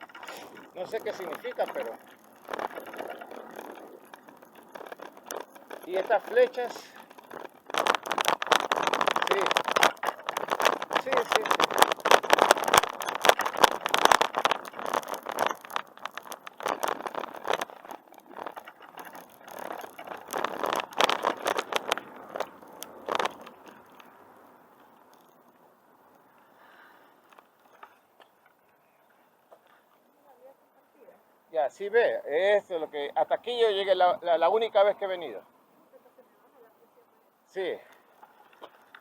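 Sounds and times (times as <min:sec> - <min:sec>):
bicycle clattering over trail: 0:00.0 - 0:30.1, 0:31.6 - 0:35.6, 0:37.6 - 0:39.0.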